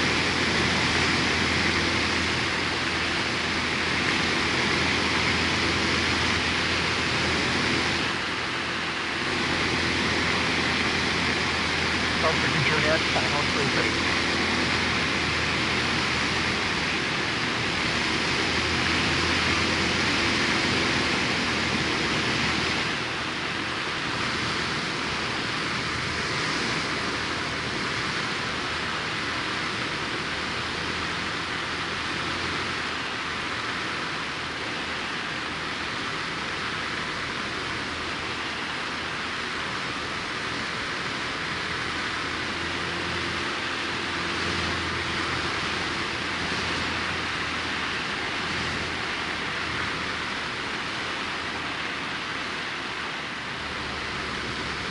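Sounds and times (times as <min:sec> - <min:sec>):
light aircraft engine and propeller: 0:00.0 - 0:54.9.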